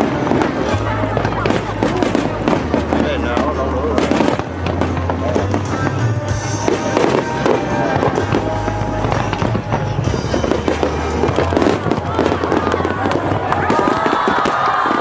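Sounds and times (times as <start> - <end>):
fireworks bursting and crackling: 0.0 - 15.0
music playing: 0.0 - 15.0.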